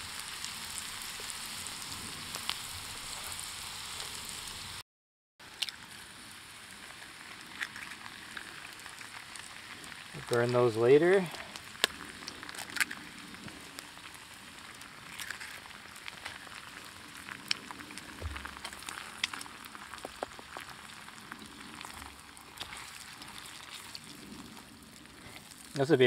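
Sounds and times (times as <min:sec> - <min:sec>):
food sizzling in pan: 0:00.0 - 0:04.8, 0:05.4 - 0:26.0.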